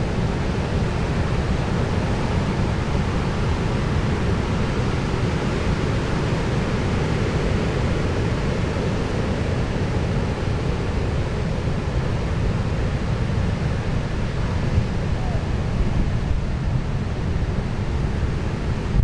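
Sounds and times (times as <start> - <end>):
sea: 0.0 - 19.0
wind: 0.0 - 19.0.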